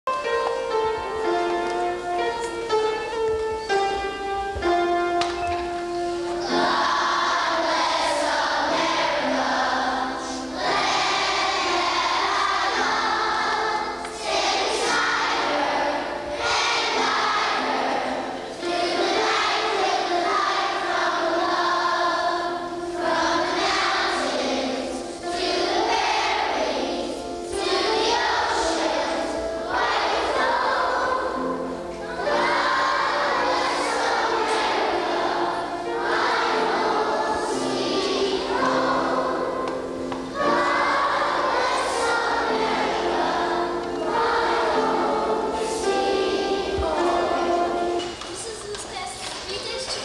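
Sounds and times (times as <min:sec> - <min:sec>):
instrumental accompaniment: 0:00.0 - 0:50.0
children's choir singing: 0:00.1 - 0:50.0.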